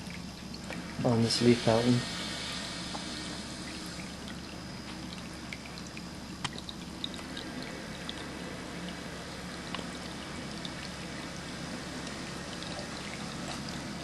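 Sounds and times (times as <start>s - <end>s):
fountain water trickling and splashing: 0.0s - 14.0s
small water drips: 0.0s - 14.0s.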